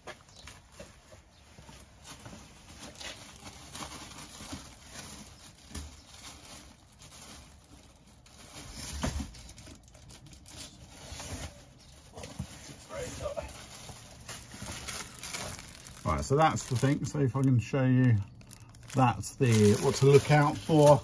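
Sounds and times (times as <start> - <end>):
plastic bags rustling: 0.6 - 21.0.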